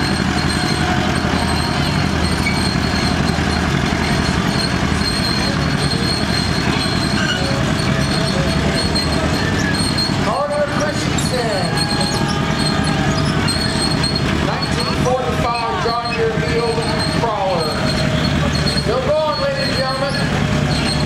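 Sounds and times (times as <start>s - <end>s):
crawler engine running under load: 0.0s - 21.0s
steel tracks clattering: 0.0s - 21.0s.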